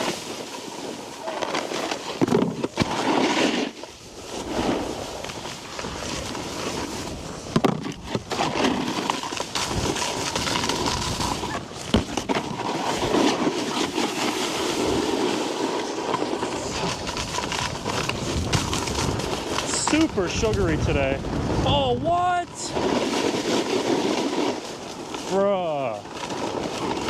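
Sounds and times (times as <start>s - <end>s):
snowboard scraping over snow: 0.0s - 27.0s.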